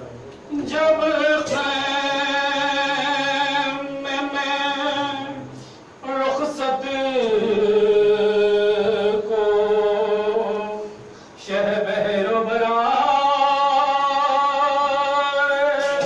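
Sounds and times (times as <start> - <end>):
man chanting a lament: 0.5 - 16.0.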